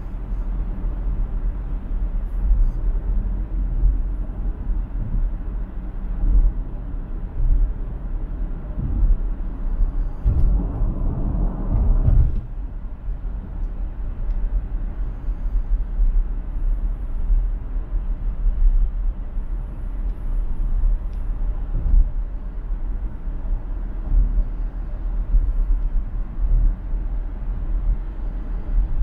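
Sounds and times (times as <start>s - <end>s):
low road rumble: 0.0s - 29.0s.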